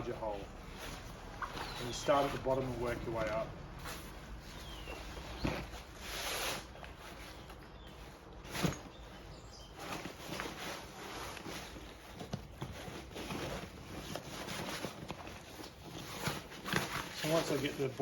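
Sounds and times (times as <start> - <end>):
fabric rustling and scuffing: 0.0 - 18.0.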